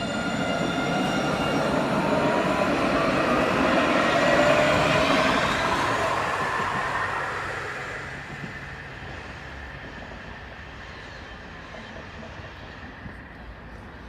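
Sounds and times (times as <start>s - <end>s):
tram rail noise with ringing: 0.0s - 14.0s
tram rumble: 0.0s - 14.0s.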